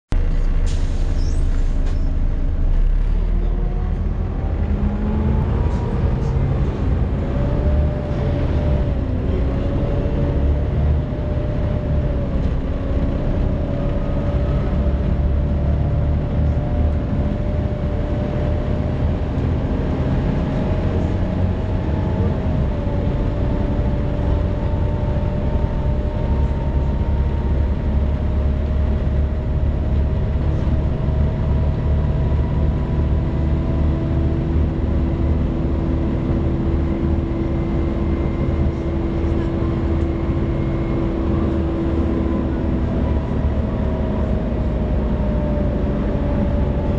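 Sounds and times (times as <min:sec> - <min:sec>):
diesel engine and road rumble: 0:00.1 - 0:46.9.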